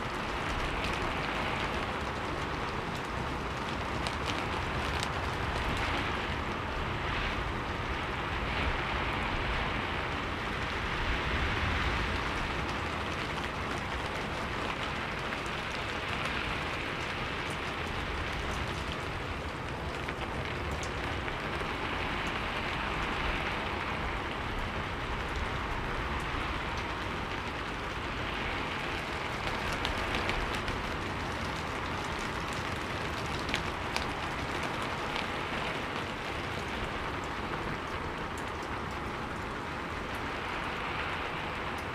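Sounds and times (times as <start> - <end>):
faint raindrop ticks: 0.0 - 41.9
steady rain hiss: 0.0 - 41.9.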